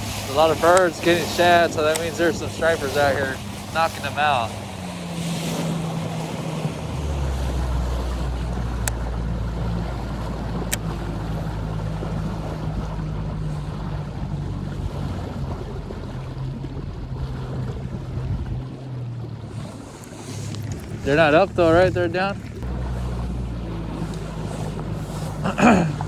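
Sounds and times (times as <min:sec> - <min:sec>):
wind noise on microphone: 0:00.0 - 0:21.4
boat motor running: 0:00.0 - 0:26.0.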